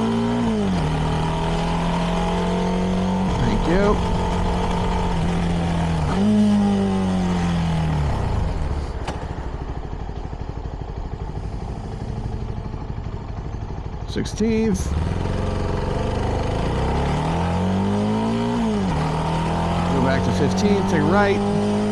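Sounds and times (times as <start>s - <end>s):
motorcycle engine: 0.0s - 21.9s.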